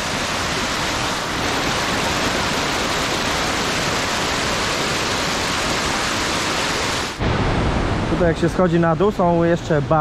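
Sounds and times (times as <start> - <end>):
waterfall rushing: 0.0 - 9.5.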